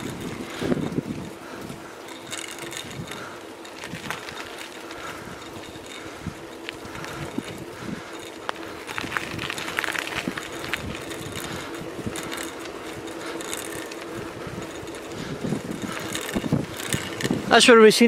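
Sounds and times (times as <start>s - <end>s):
bicycle tyre and hub hum: 0.0s - 18.0s.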